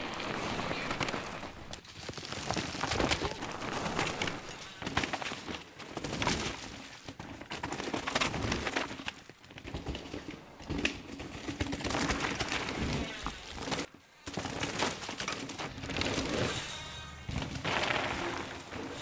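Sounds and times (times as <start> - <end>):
bike tyres rolling on dirt: 0.0 - 19.0.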